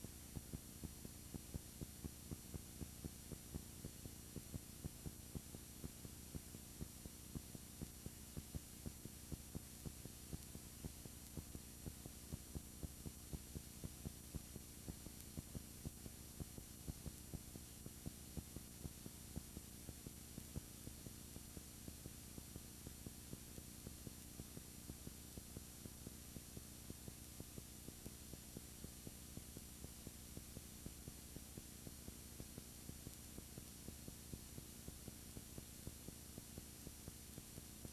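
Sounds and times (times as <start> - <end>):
electrical hum and hiss: 0.0 - 37.9
faint regular ticking: 0.0 - 37.9.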